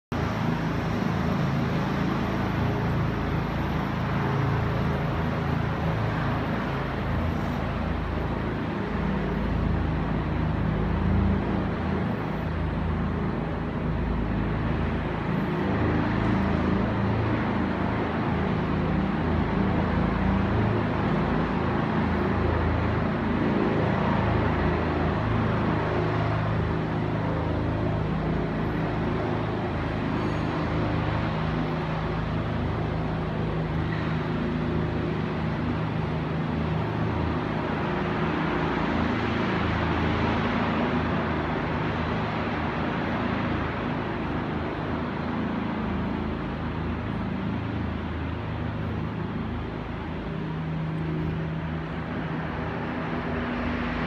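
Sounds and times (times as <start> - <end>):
helicopter rotor drone: 0.1 - 54.0.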